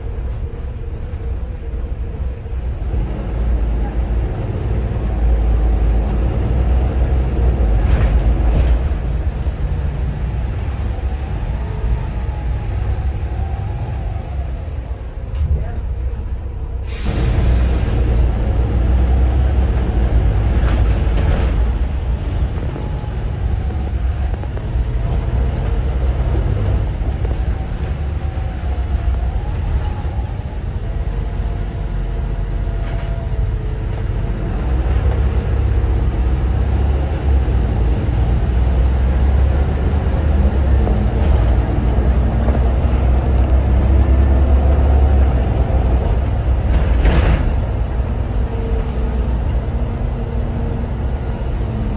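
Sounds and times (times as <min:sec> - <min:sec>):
bus engine rumble: 0:00.0 - 0:51.9
road noise: 0:00.0 - 0:51.9.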